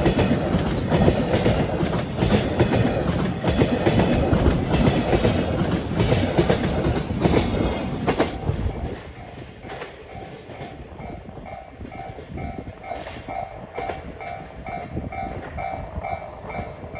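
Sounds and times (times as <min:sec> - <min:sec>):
train wheels clattering over joints: 0:00.0 - 0:16.9.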